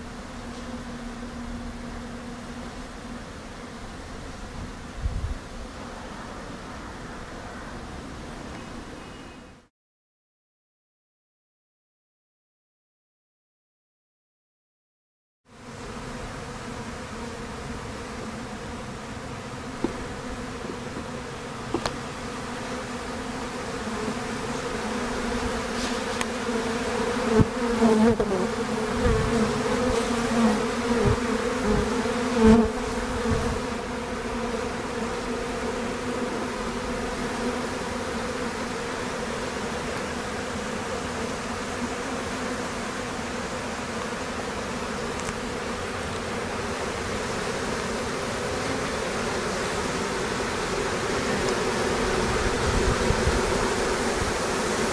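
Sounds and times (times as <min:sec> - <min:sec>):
bees buzzing: 0:00.0 - 0:09.6, 0:15.5 - 0:54.9
single bees passing close: 0:00.0 - 0:09.7, 0:15.5 - 0:54.9.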